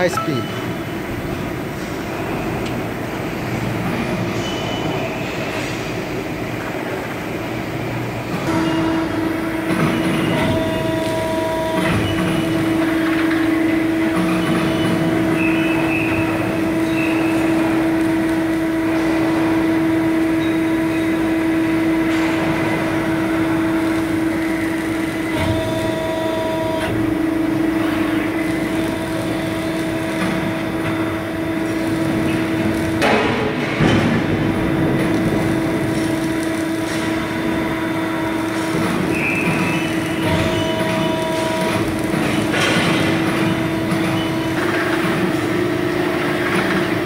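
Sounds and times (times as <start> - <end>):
hydraulic press humming: 7.7 - 47.0.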